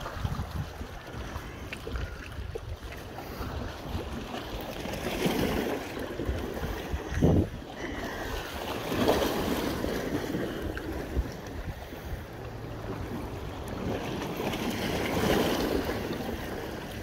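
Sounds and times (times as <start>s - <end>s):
small waves lapping on rocks: 0.0s - 17.0s
wind buffeting microphone: 0.0s - 17.0s.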